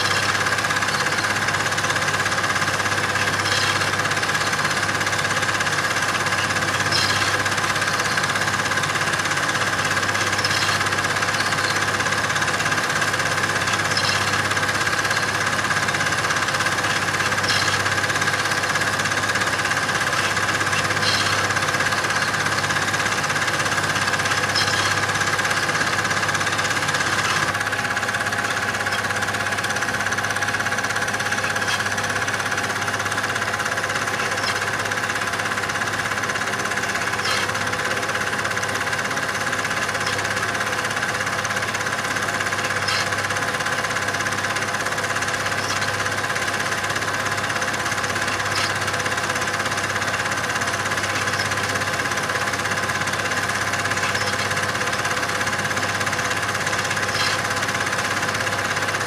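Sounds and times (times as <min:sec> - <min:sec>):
film projector whirring and rattling: 0:00.0 - 0:59.0.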